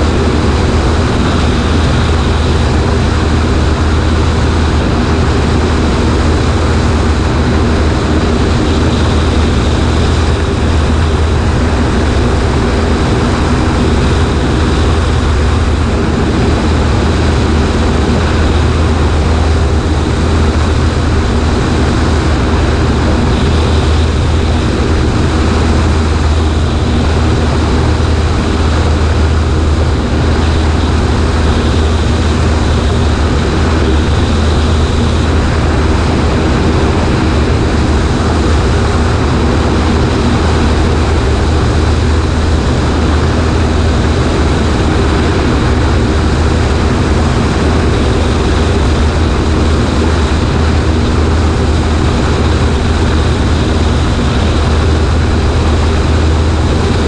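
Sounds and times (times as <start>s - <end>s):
light aircraft engine and propeller: 0.0s - 57.0s
rushing noise: 0.0s - 57.0s.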